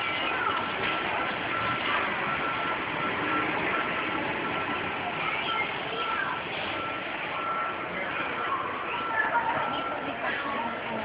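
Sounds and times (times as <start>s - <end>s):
crowd noise: 0.0s - 11.0s
reversing alarm beeping: 0.0s - 11.0s.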